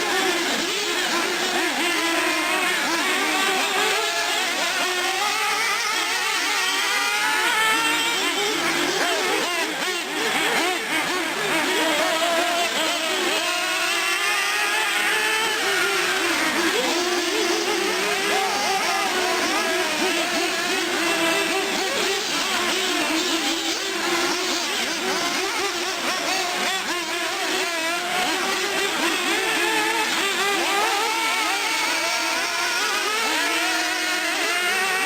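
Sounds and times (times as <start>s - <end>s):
model car engines revving: 0.0s - 35.0s.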